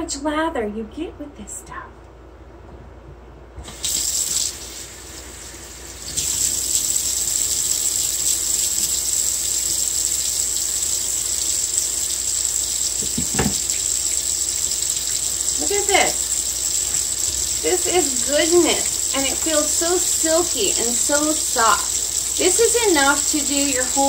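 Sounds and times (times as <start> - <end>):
water running from a tap: 3.6 - 24.0.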